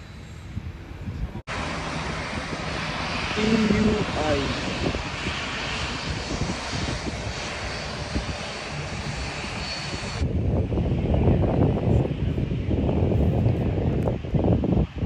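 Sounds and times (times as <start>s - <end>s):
jet engines passing: 0.0s - 15.0s
wind buffeting microphone: 0.0s - 15.0s.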